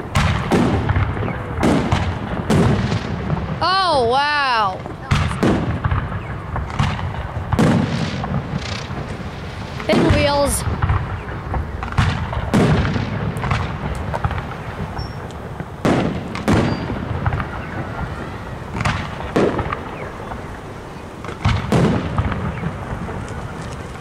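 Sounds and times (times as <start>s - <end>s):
firework shells booming: 0.0s - 24.0s.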